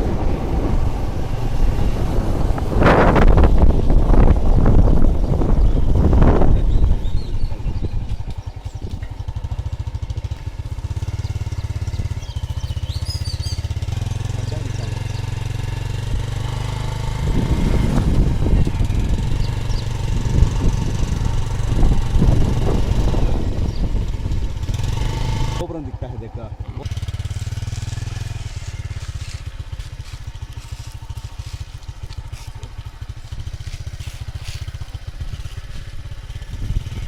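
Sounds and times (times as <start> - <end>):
small engine running: 0.0 - 37.0.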